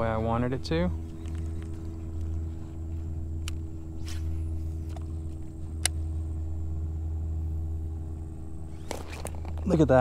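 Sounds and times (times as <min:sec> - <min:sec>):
electric trolling motor hum: 0:00.0 - 0:10.0.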